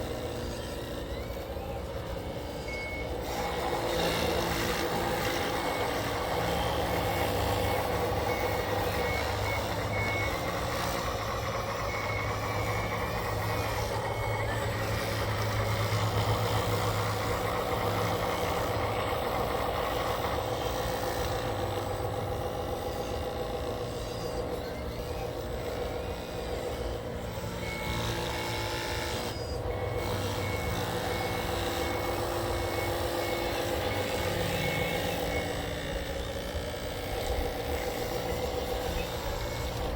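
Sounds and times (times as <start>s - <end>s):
motor and gear whine: 0.0s - 39.9s
reversing beeper: 0.1s - 25.7s, 26.6s - 39.9s.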